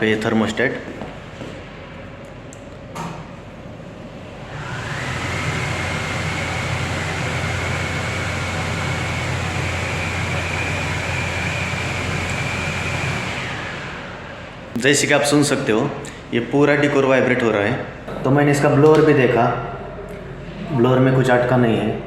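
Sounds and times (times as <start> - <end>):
air conditioner blower whine: 0.0 - 22.0.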